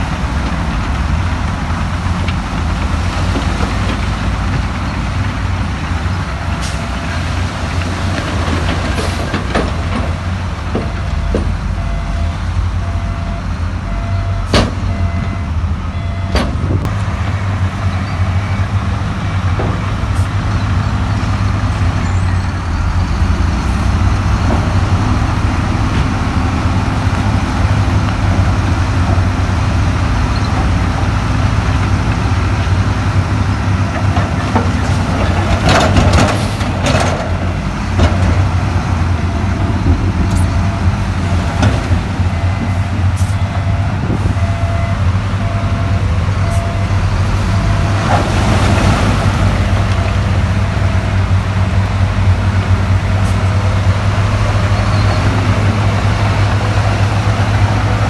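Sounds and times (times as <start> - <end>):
heavy diesel machinery engine drone: 0.0 - 58.0.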